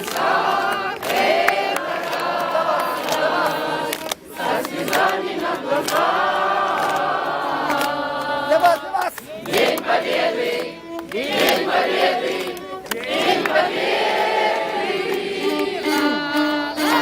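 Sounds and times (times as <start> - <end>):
crowd singing: 0.0 - 17.0.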